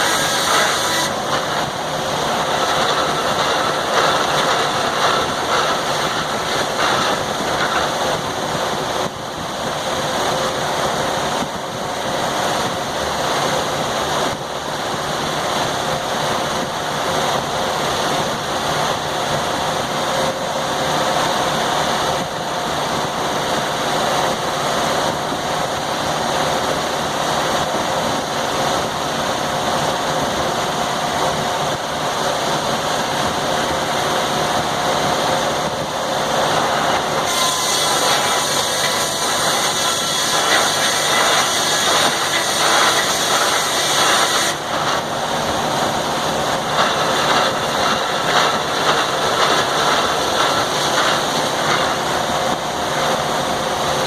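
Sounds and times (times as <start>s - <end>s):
sawmill mechanical drone: 0.0s - 54.0s.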